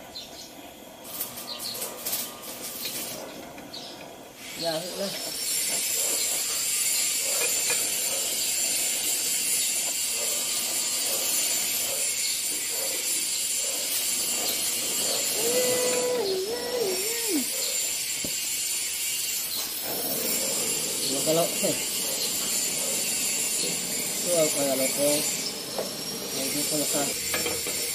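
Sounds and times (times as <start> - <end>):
gas torch flame hissing: 0.0 - 27.9.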